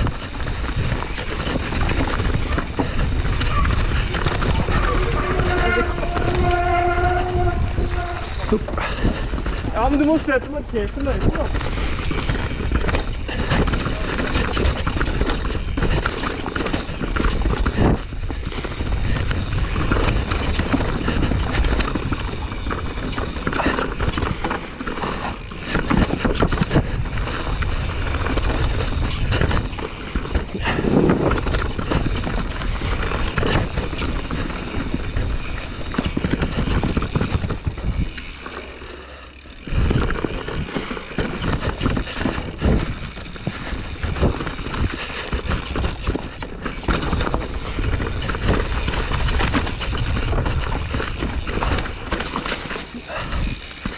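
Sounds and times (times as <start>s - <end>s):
bike knocking and rattling: 0.0s - 53.9s
bike tyres crunching over dirt: 0.0s - 53.9s.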